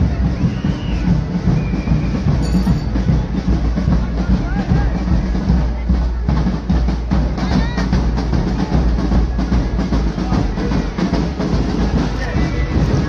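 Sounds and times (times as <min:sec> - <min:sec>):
loud driving drum beats: 0:00.0 - 0:13.0.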